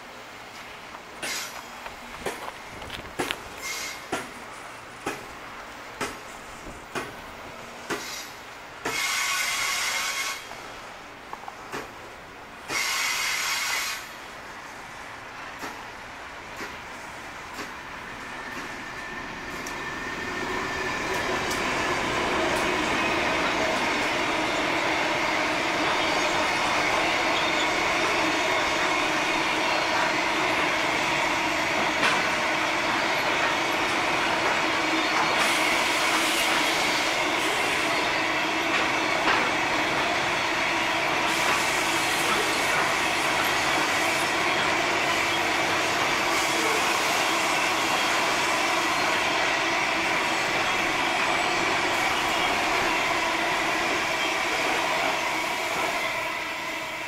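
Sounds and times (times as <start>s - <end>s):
train wagons rolling past: 0.0s - 57.0s.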